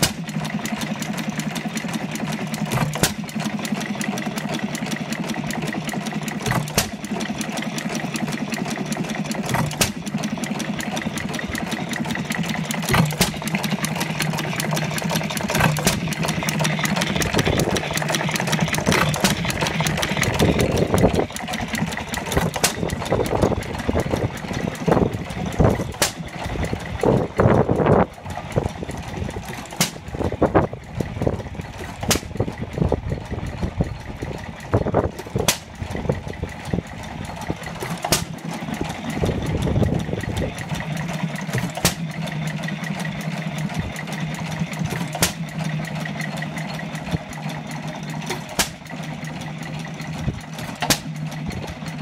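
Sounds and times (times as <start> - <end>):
hit-and-miss engine banging: 0.0 - 52.0.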